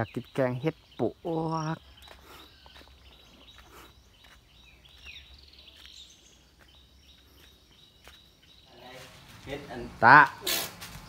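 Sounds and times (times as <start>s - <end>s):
high bird chirps: 0.0s - 9.6s.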